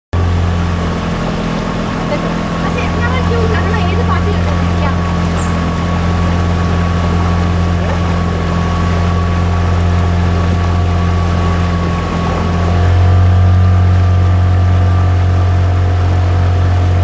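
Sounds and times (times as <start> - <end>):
boat engine droning: 0.1 - 17.0.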